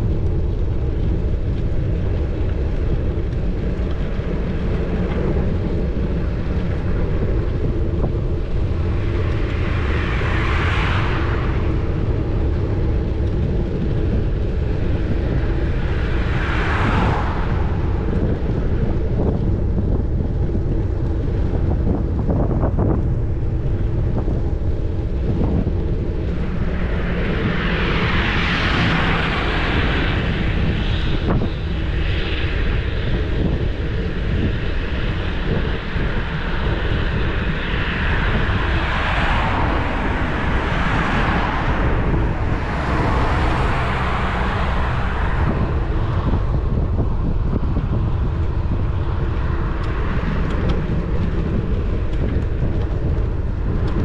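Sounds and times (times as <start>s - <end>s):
vehicles passing: 0.0s - 32.0s, 36.6s - 54.0s
wind buffeting microphone: 0.0s - 54.0s.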